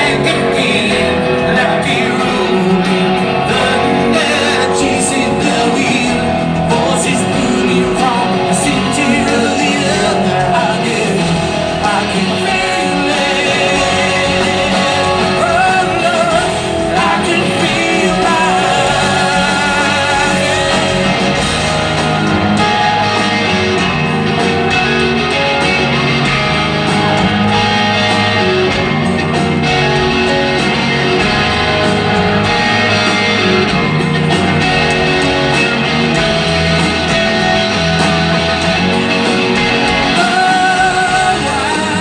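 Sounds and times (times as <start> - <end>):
electric guitar: 0.0 - 42.0
rock band playing live: 0.0 - 42.0.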